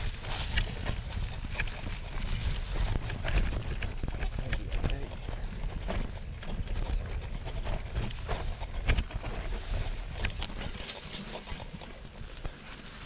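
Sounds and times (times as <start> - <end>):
bicycle rattling and clunking: 0.0 - 13.0
low tyre rumble: 0.0 - 13.0.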